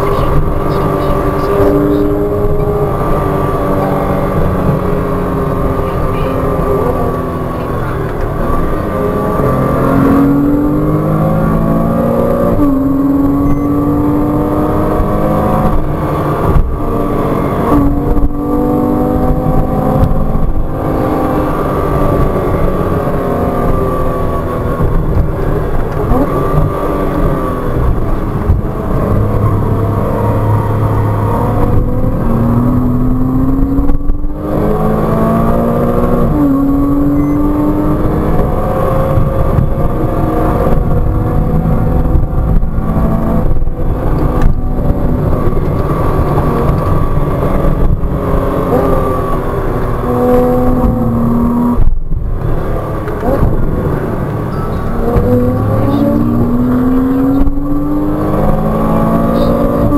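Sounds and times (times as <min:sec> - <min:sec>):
car engine revving from inside cabin: 0:00.0 - 0:59.9.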